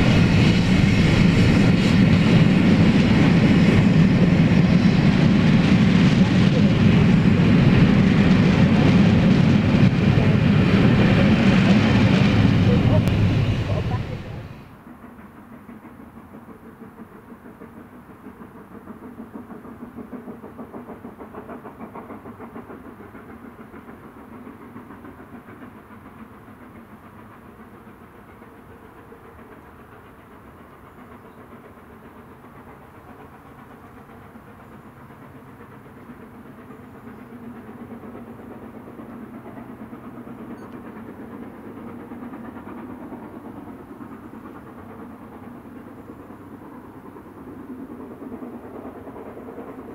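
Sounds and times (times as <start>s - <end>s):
distant steam locomotive exhaust beats: 0.0s - 49.9s.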